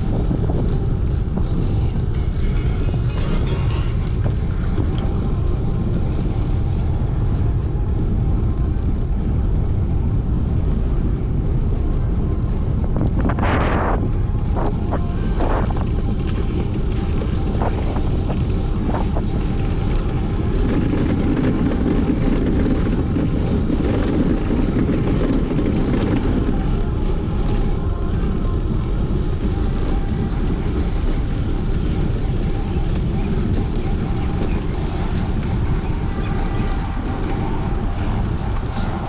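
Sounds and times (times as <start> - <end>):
low drone: 0.0 - 39.0
wind buffeting microphone: 0.0 - 39.0.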